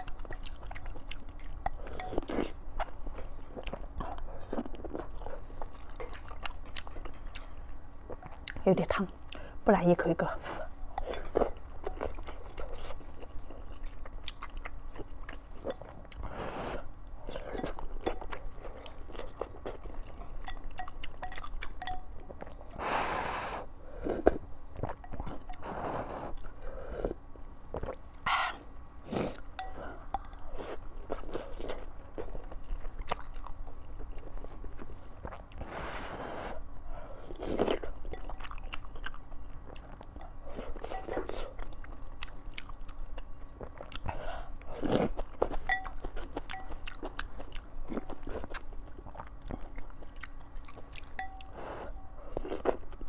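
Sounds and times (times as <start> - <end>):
chewing with wet mouth smacks: 0.0 - 9.6, 10.7 - 16.3, 17.2 - 22.8, 29.1 - 35.6, 36.7 - 53.0.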